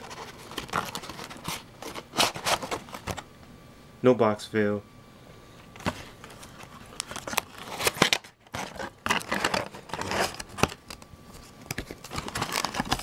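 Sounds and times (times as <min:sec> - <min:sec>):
cardboard and paper crinkling: 0:00.0 - 0:03.2, 0:05.8 - 0:13.0.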